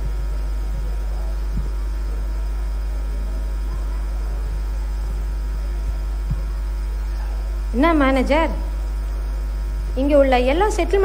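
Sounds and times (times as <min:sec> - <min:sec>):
low hum from pa system: 0:00.0 - 0:11.0.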